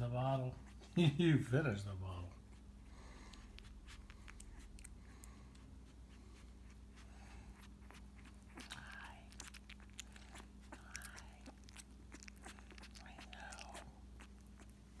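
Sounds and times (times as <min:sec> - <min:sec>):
puppy sucking on feeding bottle: 0:02.4 - 0:15.0.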